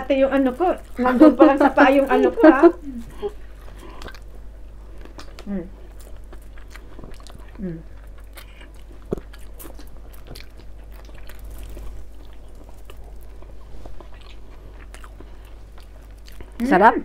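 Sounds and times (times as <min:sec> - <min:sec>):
chewing and biting food: 0:03.0 - 0:16.7.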